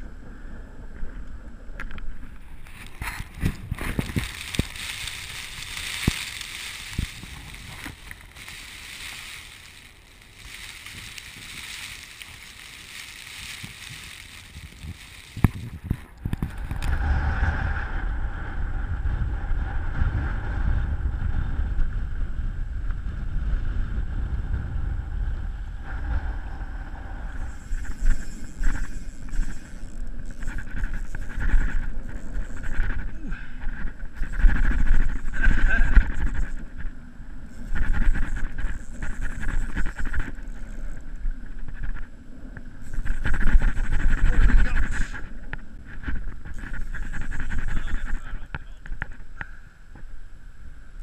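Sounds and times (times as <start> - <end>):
wind on microphone: 0.0 - 50.3.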